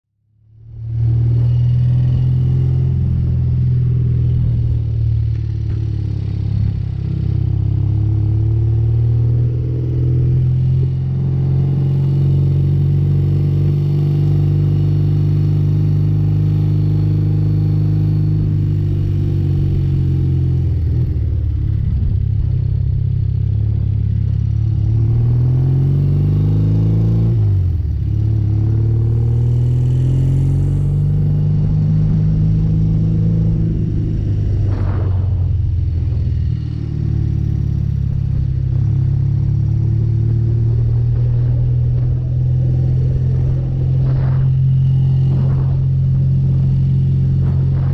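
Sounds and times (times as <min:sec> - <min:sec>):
motorcycle engine running: 0:00.3 - 0:47.9.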